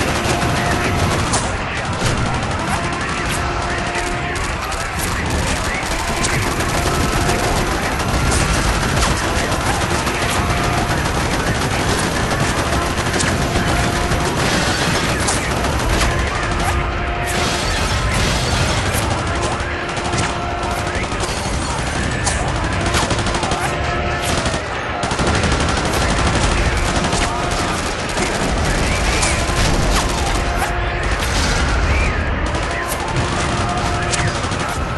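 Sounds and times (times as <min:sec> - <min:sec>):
machine-gun bursts: 0:00.0 - 0:17.9, 0:18.5 - 0:31.6.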